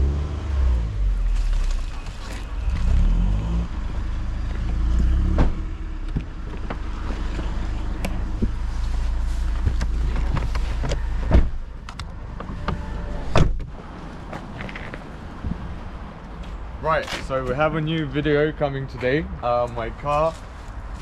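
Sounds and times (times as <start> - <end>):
low vehicle rumble: 0.0 - 18.6.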